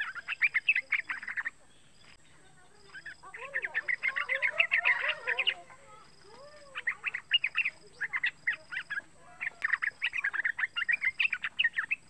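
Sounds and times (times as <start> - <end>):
bird chirping in bursts: 0.0 - 12.0.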